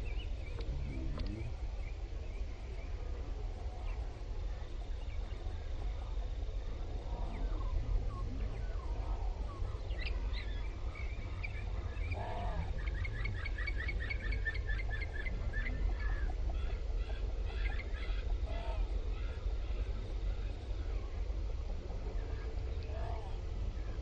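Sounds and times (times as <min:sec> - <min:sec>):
birds chirping: 0:00.0 - 0:24.0
steady low rumble: 0:00.0 - 0:24.0.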